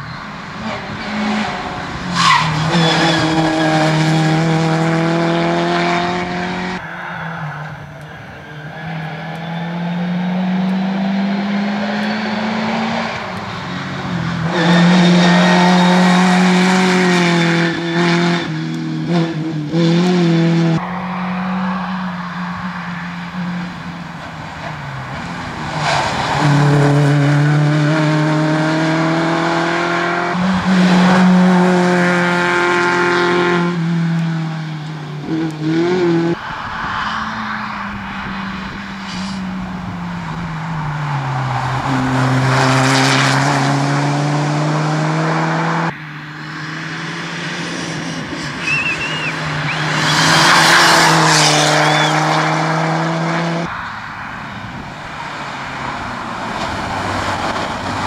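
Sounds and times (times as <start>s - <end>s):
rally car engines revving high: 0.0s - 6.8s, 7.4s - 54.0s.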